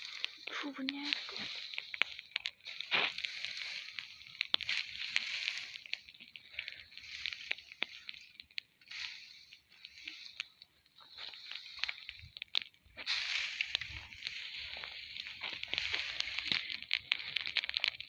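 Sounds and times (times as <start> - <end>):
fire crackling and popping: 0.0 - 18.0
hiss of flames: 0.0 - 18.0.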